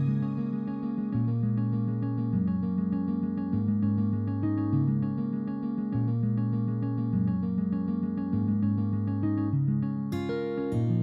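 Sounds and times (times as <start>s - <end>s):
instrumental music with repeating notes: 0.0s - 11.0s.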